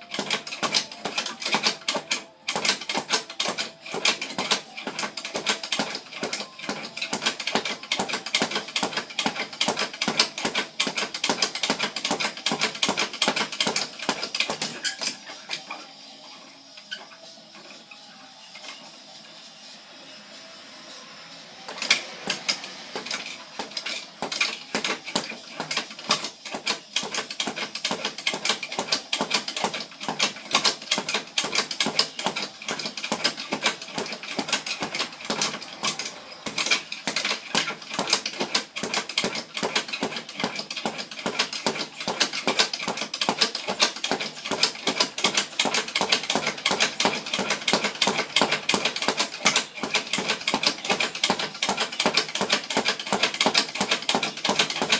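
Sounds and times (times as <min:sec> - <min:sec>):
speed bag being punched: 0:00.0 - 0:15.7, 0:21.7 - 0:54.9.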